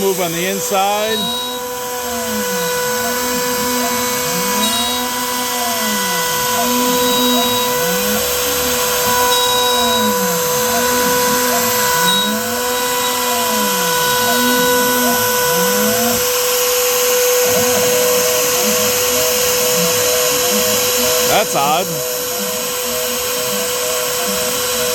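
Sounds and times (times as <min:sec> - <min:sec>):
cnc motor tone rising and falling: 0:00.0 - 0:24.9
router spindle high whine: 0:00.0 - 0:24.9.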